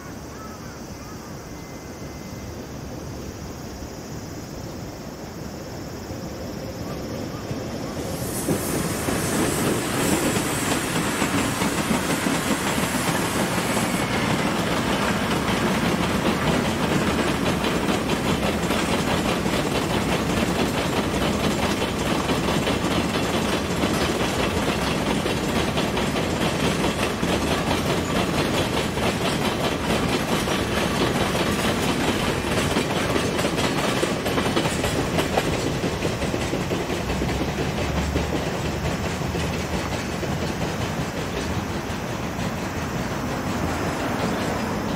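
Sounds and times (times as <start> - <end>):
freight train rumble: 0.0 - 44.9
wheels clacking over rail joints: 6.9 - 44.9.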